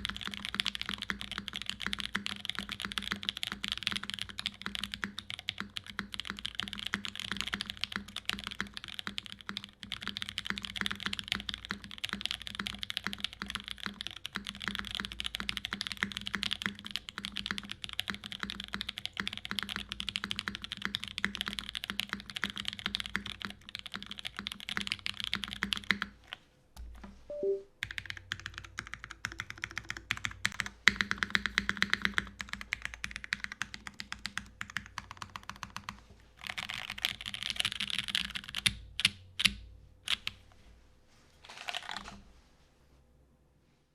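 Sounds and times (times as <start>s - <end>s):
mechanical keyboard typing: 0.0s - 40.4s.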